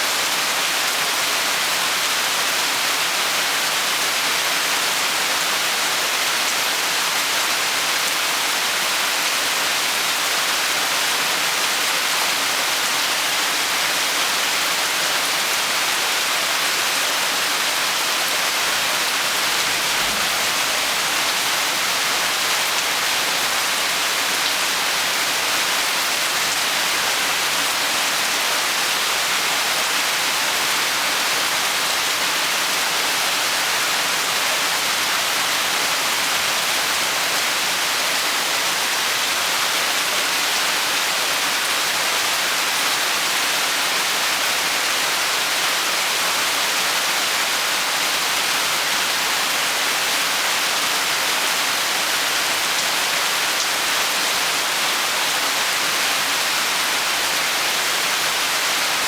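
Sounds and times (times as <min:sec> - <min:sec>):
rain falling steadily: 0:00.0 - 0:59.0.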